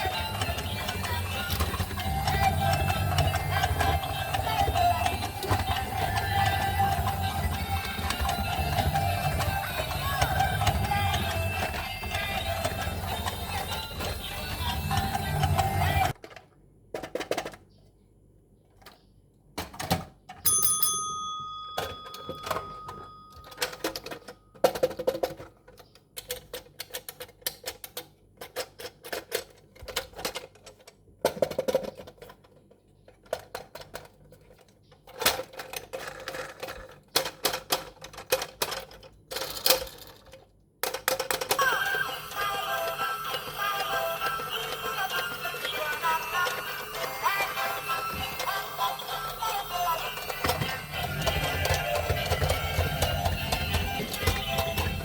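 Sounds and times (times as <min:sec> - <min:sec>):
toy packaging clicking and crackling: 0:00.0 - 0:17.6, 0:22.4 - 0:55.0.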